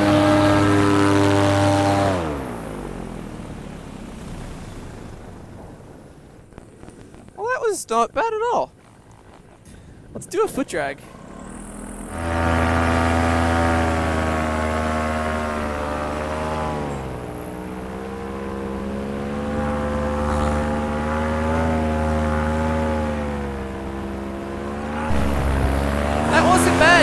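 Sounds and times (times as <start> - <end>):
paramotor engine and propeller: 0.0 - 27.0.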